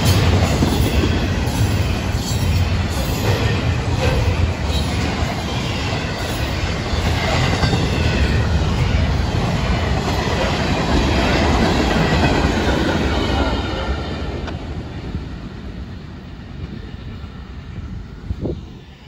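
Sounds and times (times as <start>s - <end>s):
steel wheels running on rails: 0.0s - 19.0s.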